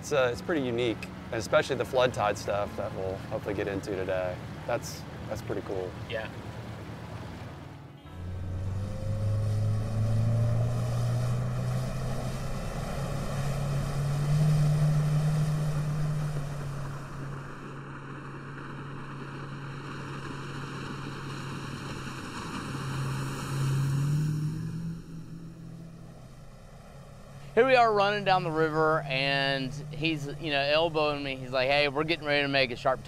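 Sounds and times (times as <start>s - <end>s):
outboard motor running: 0.0s - 33.0s
water rushing: 0.0s - 33.0s.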